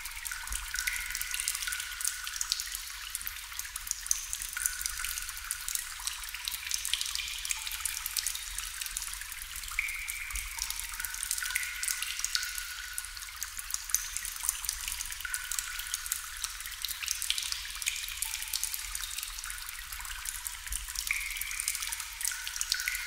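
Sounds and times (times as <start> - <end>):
water dripping into water: 0.0 - 23.0.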